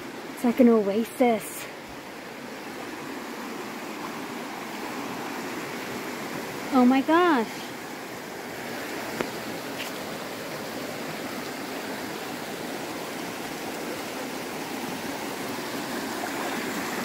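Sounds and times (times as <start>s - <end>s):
creek water rushing over rocks: 0.0s - 17.0s.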